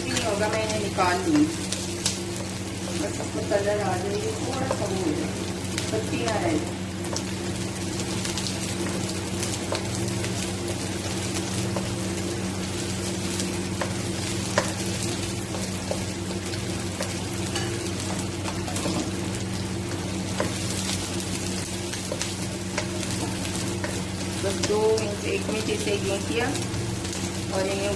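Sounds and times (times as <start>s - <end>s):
steady low hum: 0.0s - 27.9s
vegetables sizzling in oil: 0.0s - 27.9s.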